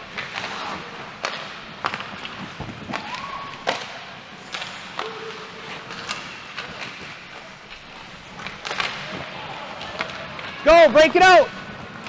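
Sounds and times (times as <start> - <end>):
echoing rink noise: 0.0 - 12.0
hockey sticks and puck clacking: 0.0 - 12.0.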